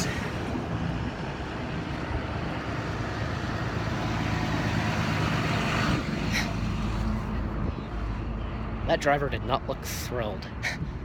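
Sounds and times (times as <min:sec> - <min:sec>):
road noise: 0:00.0 - 0:11.0
vehicle engine: 0:00.0 - 0:11.0.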